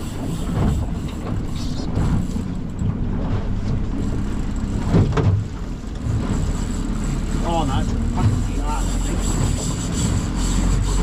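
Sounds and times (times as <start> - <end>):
boat engine rumble: 0.0 - 11.0
water around hull: 0.0 - 11.0
wind: 0.0 - 11.0.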